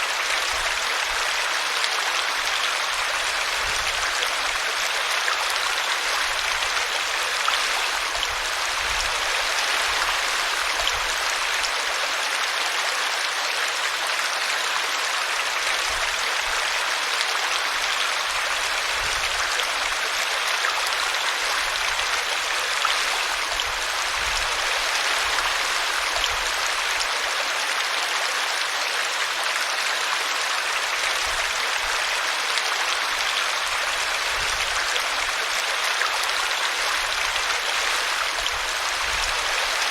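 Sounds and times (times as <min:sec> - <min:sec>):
brook rushing and splashing: 0:00.0 - 0:39.9.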